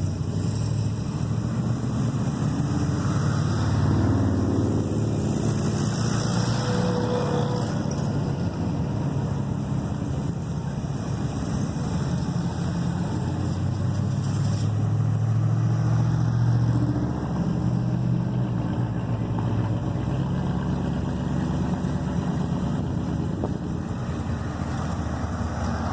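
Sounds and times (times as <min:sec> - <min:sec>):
car engines rumbling: 0:00.0 - 0:25.9.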